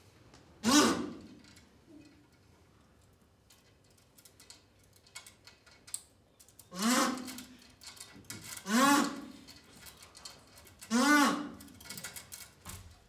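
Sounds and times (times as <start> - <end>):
faint clicks and rustles: 1.4 - 10.9, 11.5 - 13.0.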